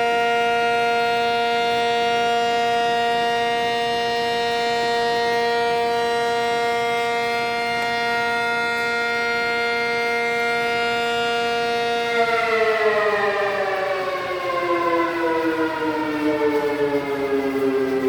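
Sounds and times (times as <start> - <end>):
air-raid siren winding down: 0.0 - 18.0.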